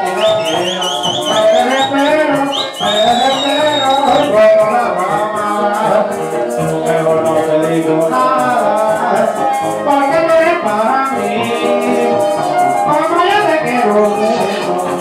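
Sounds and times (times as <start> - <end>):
maracas shaken: 0.0 - 15.0
pitched melody: 0.0 - 15.0.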